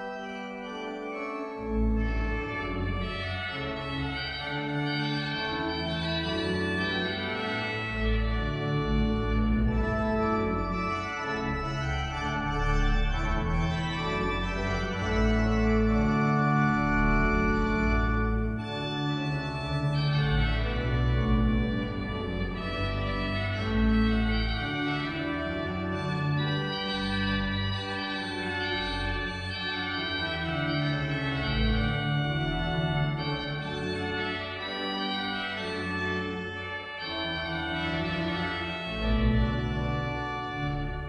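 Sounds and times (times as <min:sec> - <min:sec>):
organ chords: 0:00.0 - 0:41.0.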